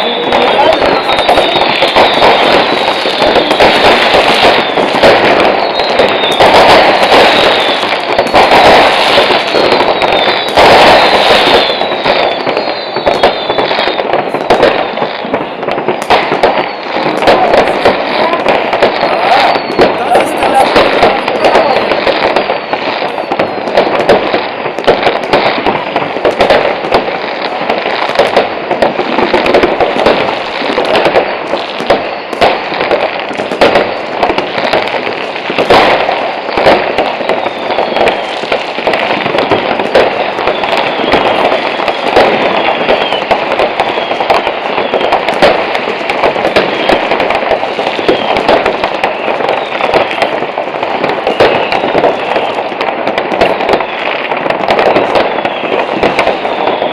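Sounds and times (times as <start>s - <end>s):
falling firework whistles: 0.0s - 56.9s
fireworks and firecrackers banging: 0.0s - 56.9s.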